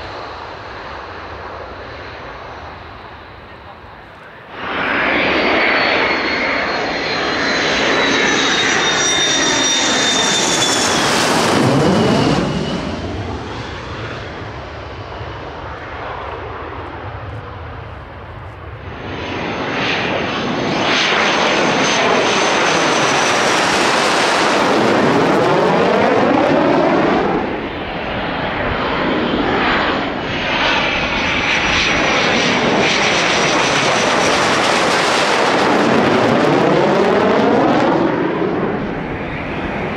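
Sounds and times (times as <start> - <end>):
high jet whine: 0.0 - 39.9
jets passing overhead: 0.0 - 39.9.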